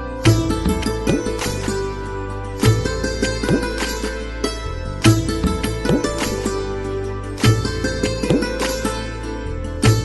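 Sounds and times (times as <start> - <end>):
plucked string notes: 0.0 - 10.0
steady low drone: 0.0 - 10.0.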